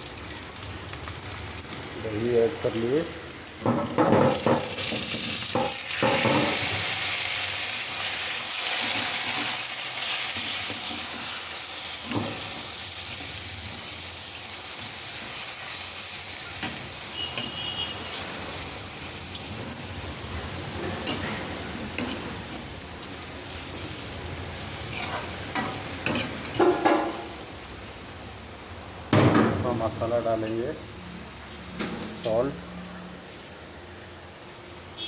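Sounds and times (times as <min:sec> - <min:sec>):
food sizzling in hot oil: 0:00.0 - 0:35.0.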